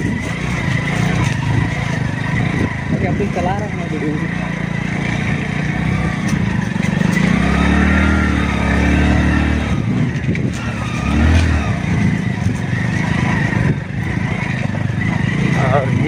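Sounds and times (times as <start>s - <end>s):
motorcycle engine working hard: 0.0s - 16.0s.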